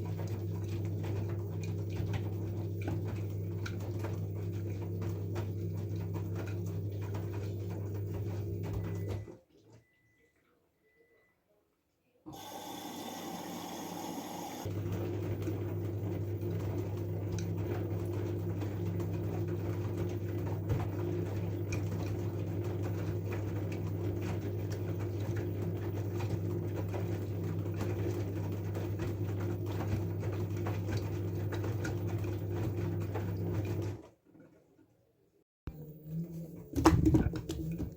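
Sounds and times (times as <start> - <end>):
washing machine humming: 0.0 - 11.1, 12.3 - 34.8, 35.7 - 37.9.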